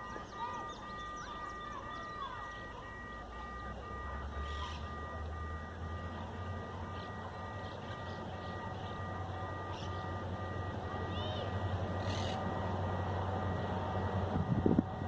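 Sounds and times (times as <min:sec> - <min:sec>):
diesel train rumble: 0:00.0 - 0:15.0
level crossing warning beeping: 0:00.0 - 0:15.0.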